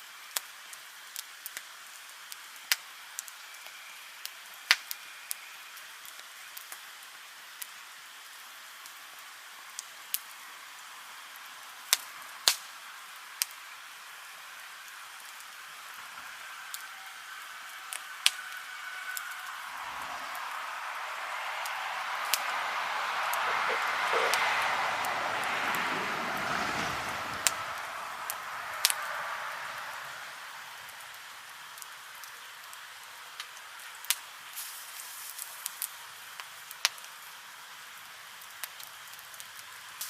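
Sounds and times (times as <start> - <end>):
bonfire hissing: 0.0 - 40.0
fire popping: 0.3 - 40.0.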